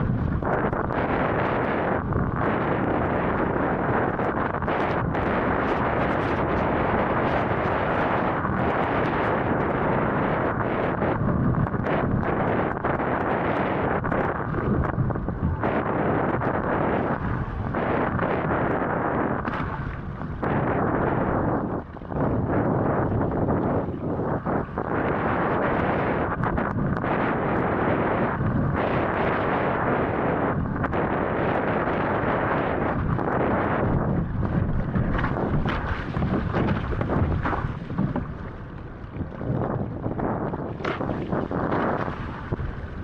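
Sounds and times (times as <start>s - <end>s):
strong wind buffeting microphone: 0.0s - 43.0s.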